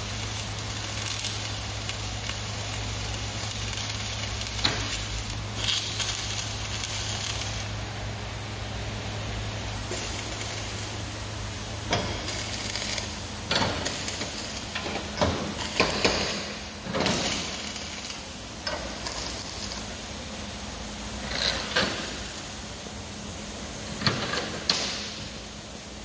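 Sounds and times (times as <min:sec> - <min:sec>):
crackling welding arc: 0:00.0 - 0:26.0
steady low hum: 0:00.0 - 0:26.0.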